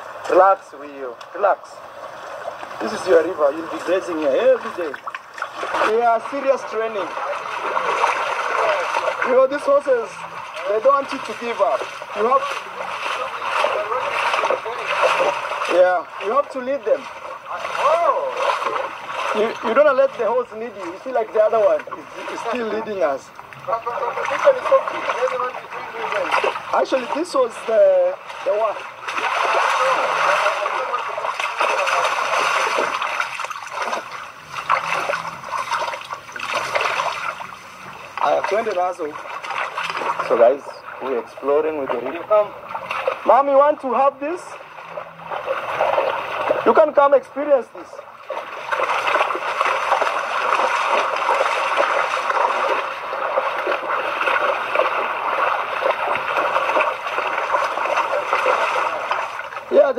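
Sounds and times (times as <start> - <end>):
water rushing in shallow river: 0.0 - 59.9.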